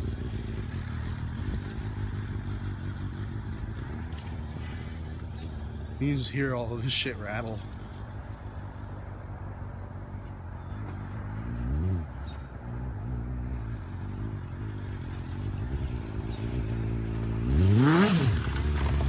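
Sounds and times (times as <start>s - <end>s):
motorcycle throttle blips: 0.0s - 8.1s, 10.2s - 19.0s
motorcycle engine idling: 0.0s - 19.0s.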